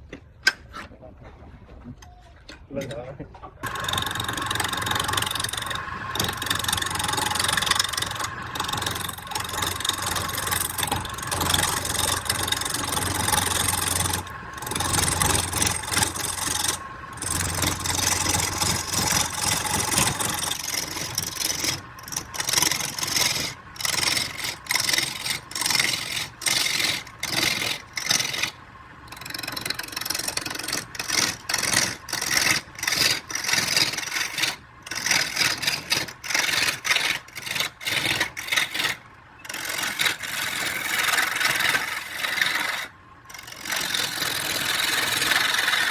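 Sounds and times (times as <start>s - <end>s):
tool scraping spinning wood: 3.6s - 45.9s
wood lathe running: 3.6s - 45.9s.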